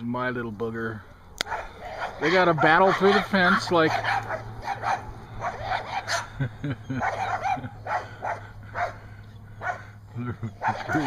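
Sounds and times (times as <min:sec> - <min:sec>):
dogs barking and yipping: 0:01.1 - 0:11.0.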